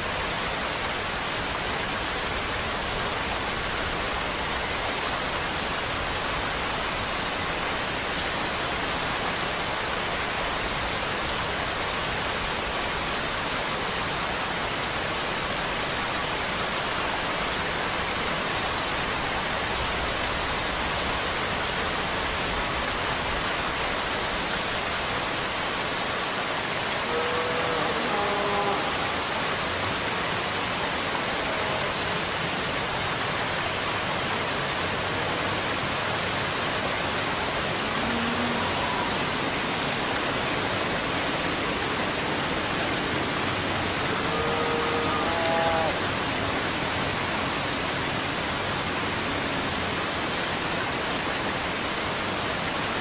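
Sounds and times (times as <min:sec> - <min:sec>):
dense rain hissing: 0:00.0 - 0:53.0.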